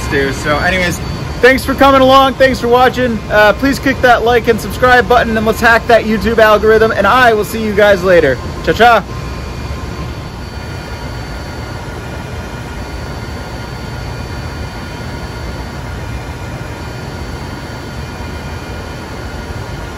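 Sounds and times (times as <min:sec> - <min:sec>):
cooling fans rushing: 0:00.0 - 0:19.9
faint steady whines: 0:00.0 - 0:19.9.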